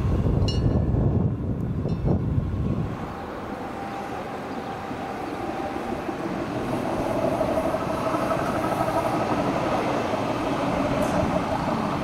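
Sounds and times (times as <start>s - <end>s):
electric railcar running past: 0.0s - 12.0s
steady motor whine: 2.4s - 12.0s.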